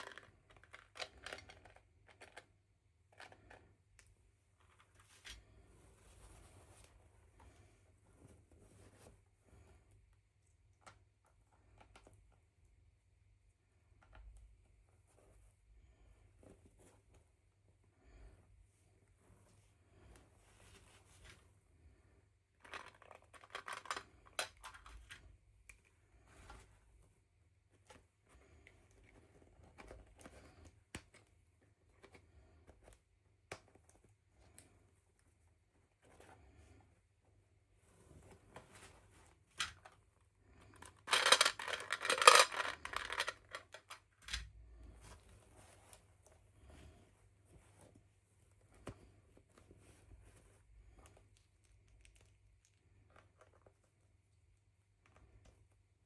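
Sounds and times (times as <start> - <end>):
soft rustling of packaging: 0.0 - 56.0.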